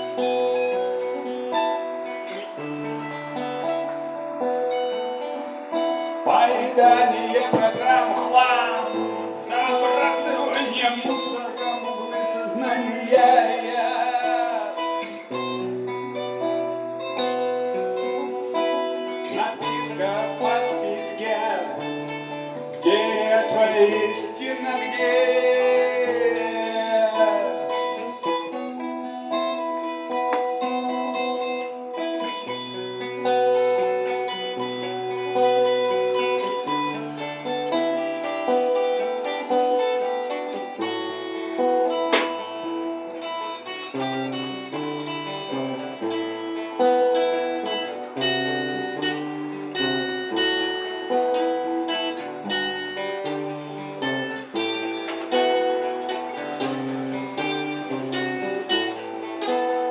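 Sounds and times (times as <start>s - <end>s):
acoustic guitar picking: 0.0s - 59.9s.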